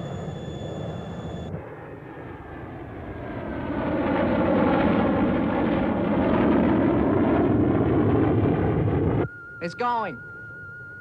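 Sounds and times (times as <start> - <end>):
aircraft engine whine: 0.0 - 11.0.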